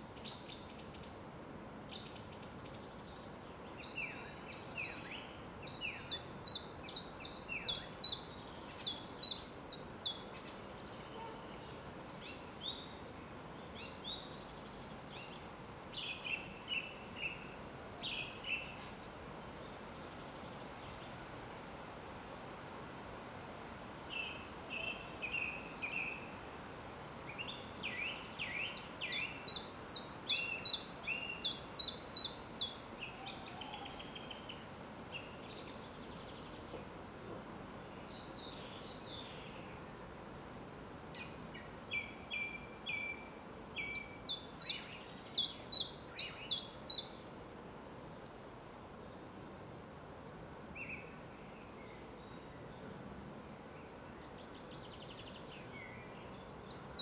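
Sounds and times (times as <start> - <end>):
songbird singing: 0.0 - 21.7, 23.5 - 47.5, 48.5 - 57.0
steady background hiss: 0.0 - 57.0.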